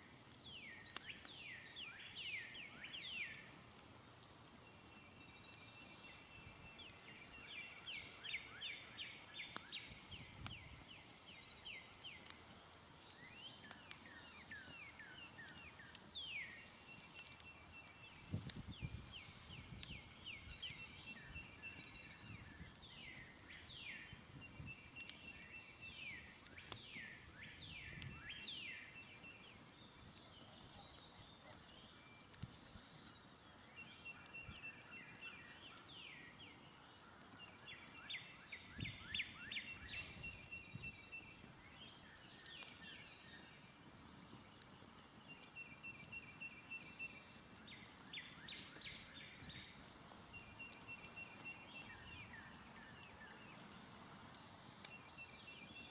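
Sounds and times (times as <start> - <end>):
campfire crackles: 0.0 - 55.9
songbirds singing: 0.2 - 55.9.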